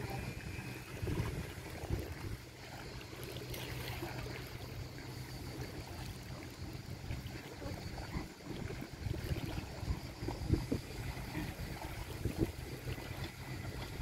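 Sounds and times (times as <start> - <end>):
sea water: 0.0 - 14.0
steady low hum: 0.0 - 14.0.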